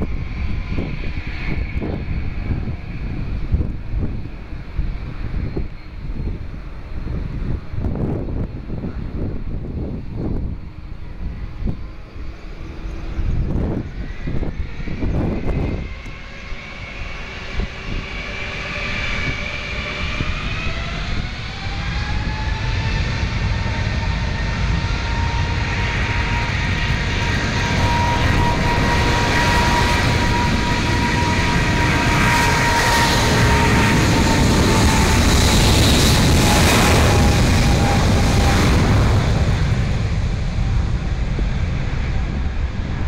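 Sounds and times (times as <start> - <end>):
jet engines spooling up: 0.0 - 43.0
wind gusts on microphone: 0.0 - 43.0.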